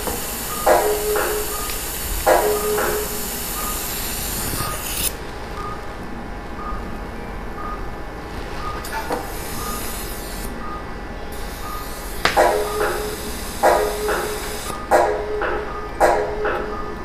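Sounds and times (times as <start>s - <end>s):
steady hiss: 0.0s - 17.0s
short electronic beeps: 0.5s - 6.0s, 6.6s - 7.9s, 8.6s - 17.0s.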